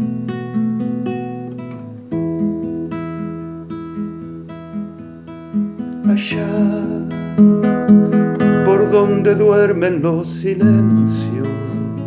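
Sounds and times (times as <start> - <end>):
classical guitar fingerstyle: 0.0 - 12.0.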